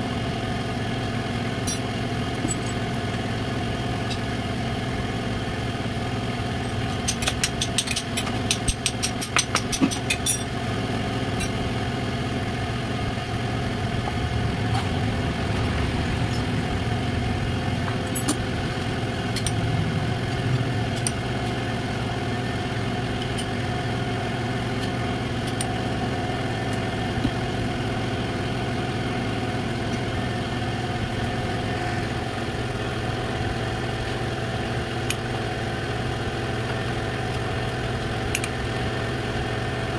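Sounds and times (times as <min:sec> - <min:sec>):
motor engine idling: 0:00.0 - 0:39.9.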